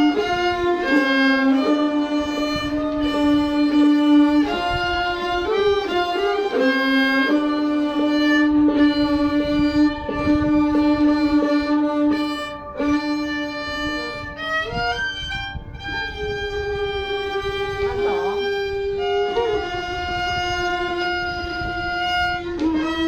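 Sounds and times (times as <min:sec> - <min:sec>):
bowed string instrument melody: 0:00.0 - 0:23.0.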